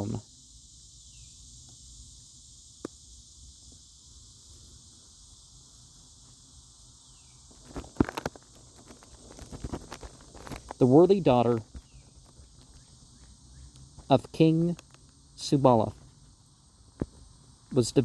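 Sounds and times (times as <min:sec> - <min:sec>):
faint high-pitched hiss: 0:00.0 - 0:18.0.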